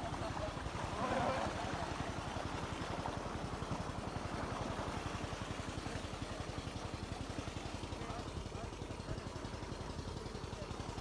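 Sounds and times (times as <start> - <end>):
engine chugging: 0.0 - 11.0
water gushing and splashing: 0.0 - 11.0.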